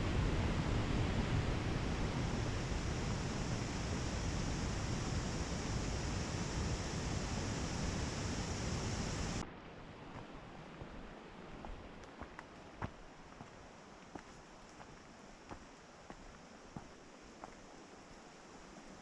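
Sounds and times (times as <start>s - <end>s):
steady rushing noise: 0.0s - 18.9s.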